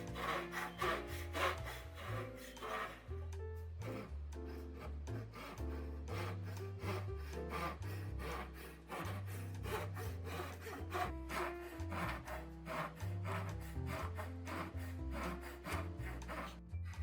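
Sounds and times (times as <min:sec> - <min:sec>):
hand saw cutting wood: 0:00.0 - 0:17.0.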